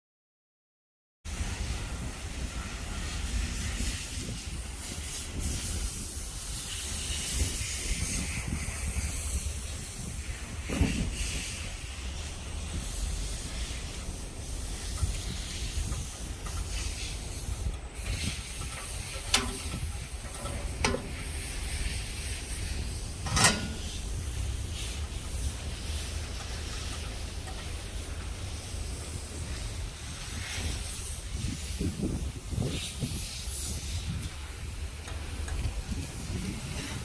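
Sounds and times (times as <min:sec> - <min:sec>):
wood fire hissing: 0:01.3 - 0:37.0
fire crackles: 0:03.6 - 0:37.0.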